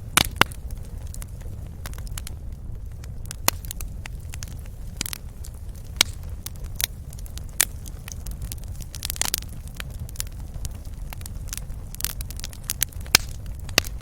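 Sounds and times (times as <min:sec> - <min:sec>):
steady low rumble: 0:00.0 - 0:14.0
wood fire crackling and popping: 0:00.0 - 0:14.0.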